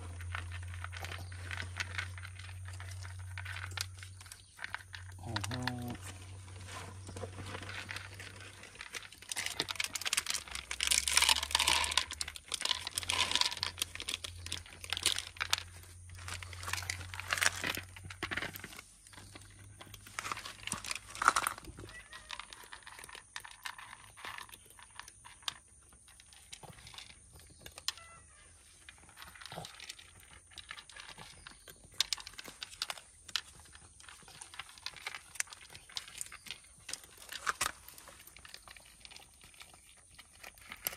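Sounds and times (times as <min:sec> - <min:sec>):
cats crunching dry food: 0:00.0 - 0:40.9.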